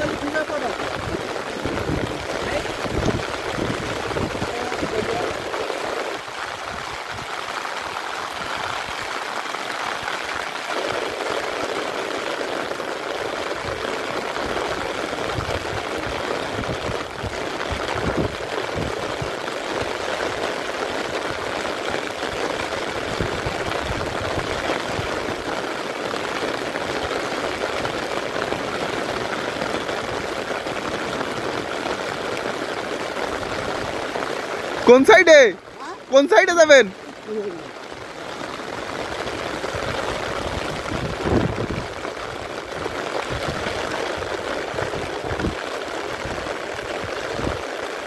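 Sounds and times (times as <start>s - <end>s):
heavy rain on water and grass: 0.0s - 48.0s.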